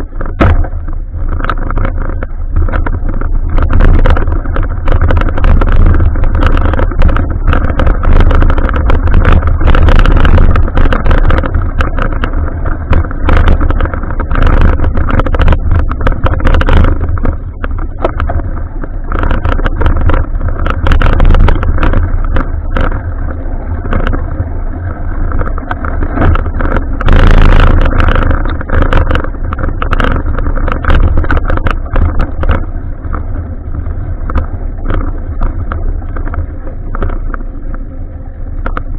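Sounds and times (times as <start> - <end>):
knocks and rattles: 0.0 - 37.8
road rumble: 0.0 - 38.9
wind on microphone: 0.0 - 38.9.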